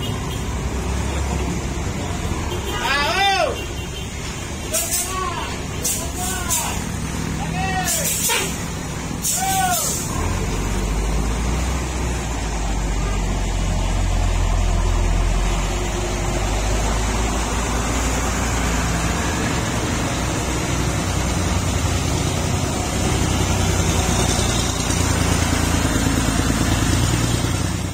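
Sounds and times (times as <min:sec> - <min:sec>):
diesel engine drone: 0:00.0 - 0:27.9.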